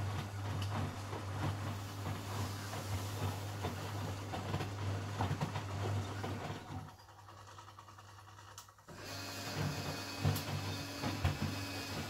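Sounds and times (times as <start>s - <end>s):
drum tumbling laundry in water: 0.0s - 8.1s, 8.9s - 12.0s
washing machine motor hum: 0.0s - 12.0s.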